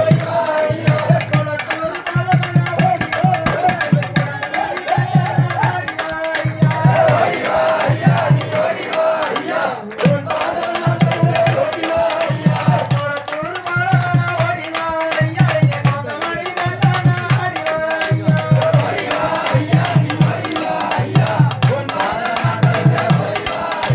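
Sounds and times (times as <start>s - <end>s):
drum beaten in rapid groups: 0.0s - 23.9s.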